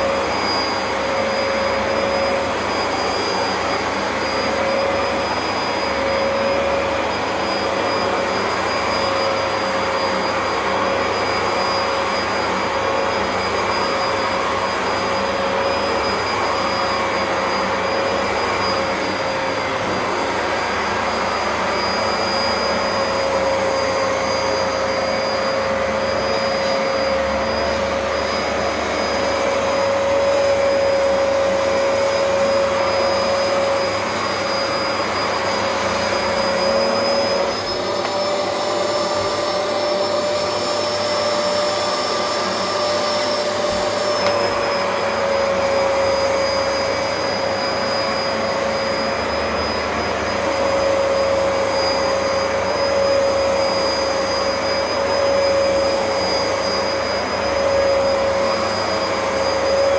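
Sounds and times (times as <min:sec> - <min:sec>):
carpet washer motor whine: 0:00.0 - 0:59.9.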